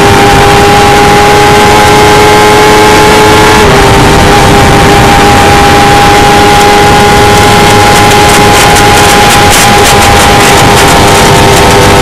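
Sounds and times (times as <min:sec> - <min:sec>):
engine running hard: 0:00.0 - 0:12.0
loud rushing noise: 0:00.0 - 0:12.0.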